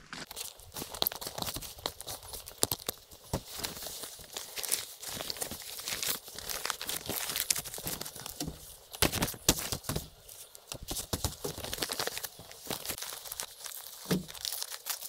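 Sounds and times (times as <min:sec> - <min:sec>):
banana leaves crinkling: 0:00.0 - 0:15.0.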